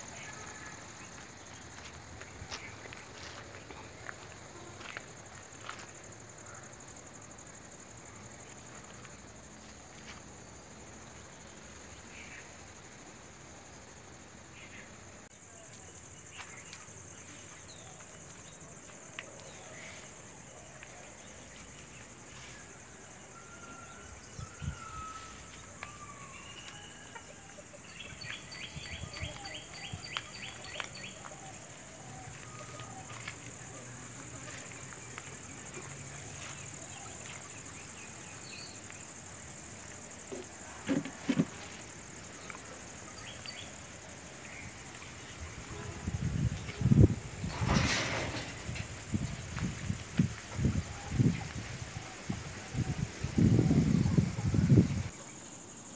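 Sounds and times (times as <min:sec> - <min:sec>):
insect drone: 0:00.0 - 0:55.9.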